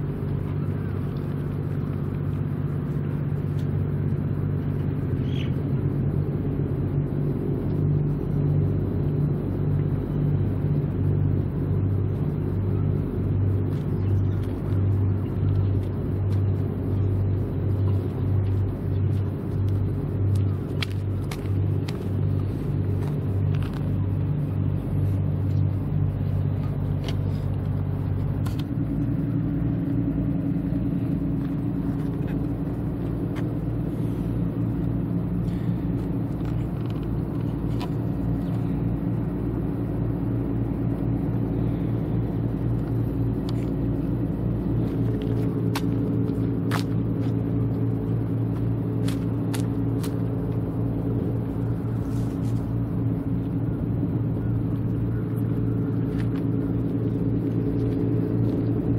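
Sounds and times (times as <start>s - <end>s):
low engine-like drone: 0.0s - 58.9s.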